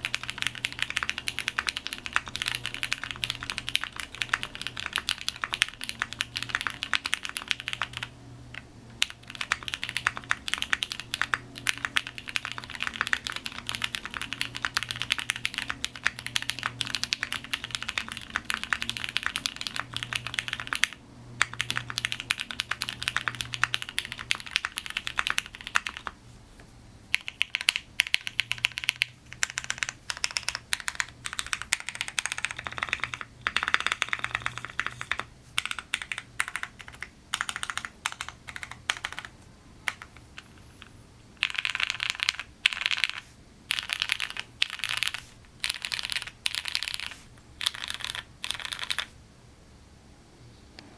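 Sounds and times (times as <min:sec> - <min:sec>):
fast typing on mechanical keyboard: 0:00.0 - 0:26.2, 0:27.1 - 0:49.2.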